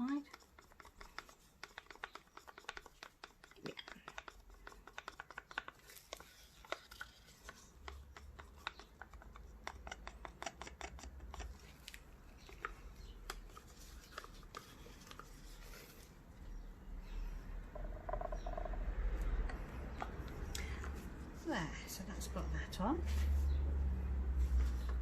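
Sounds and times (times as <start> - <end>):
plastic cups clicking and scraping: 0.0 - 16.4, 17.1 - 21.2.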